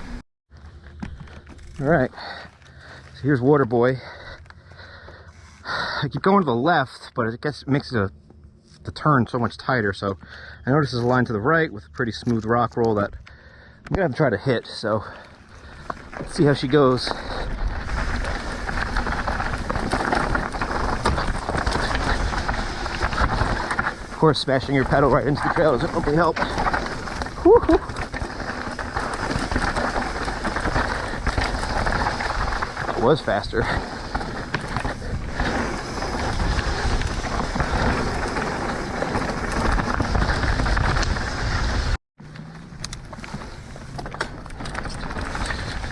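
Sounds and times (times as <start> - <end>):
bike clatter and rattling: 0.0 - 6.0, 14.0 - 45.9
bike tyres on rocky trail: 0.0 - 45.9.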